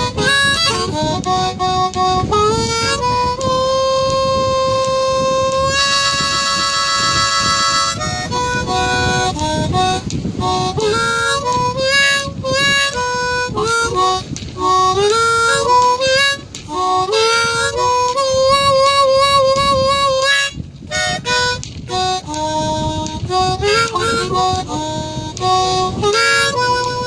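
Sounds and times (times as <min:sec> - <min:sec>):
blues harmonica solo: 0:00.0 - 0:27.0.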